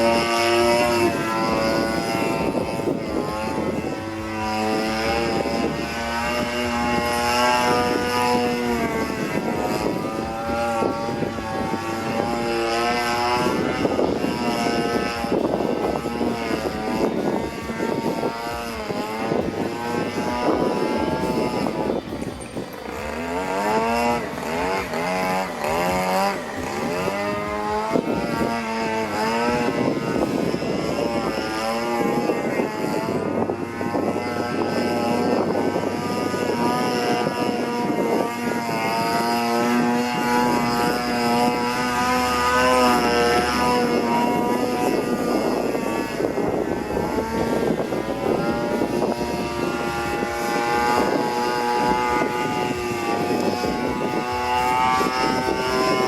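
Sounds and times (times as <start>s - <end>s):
model airplane engine and propeller: 0.0s - 56.0s.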